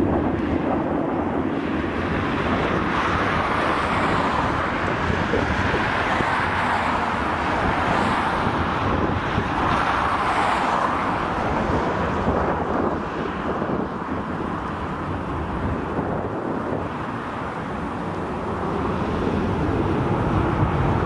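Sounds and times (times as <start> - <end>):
jet engines climbing: 0.0 - 21.0.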